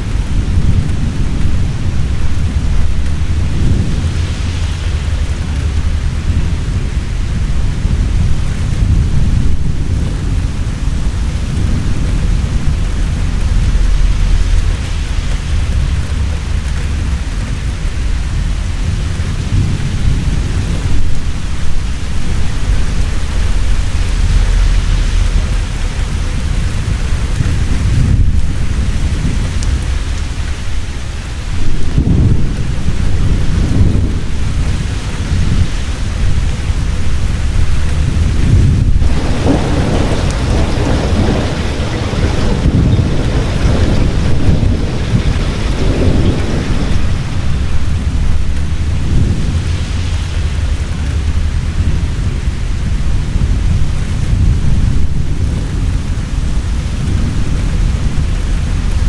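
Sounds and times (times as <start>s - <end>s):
heavy rain falling: 0.0s - 59.0s
rolling thunder: 0.0s - 59.0s.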